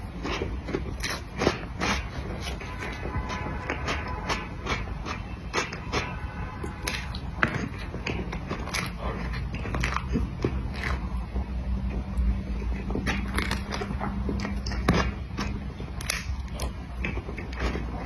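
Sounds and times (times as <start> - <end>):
wet chewing: 0.0 - 18.0.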